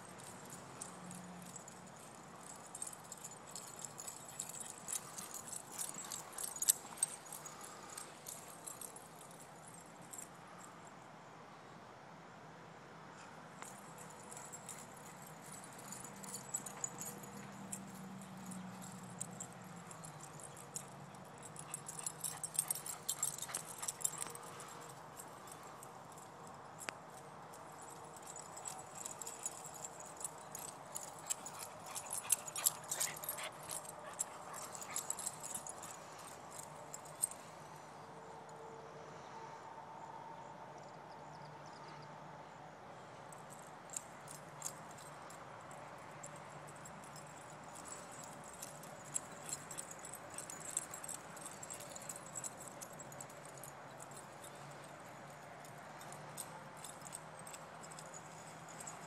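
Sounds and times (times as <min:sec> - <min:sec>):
dogs running and playing on grass: 0:00.0 - 0:10.3, 0:13.2 - 0:38.0, 0:43.4 - 0:59.0
faint metallic clicks and jingles: 0:00.0 - 0:11.0, 0:13.2 - 0:39.4, 0:40.8 - 0:59.0.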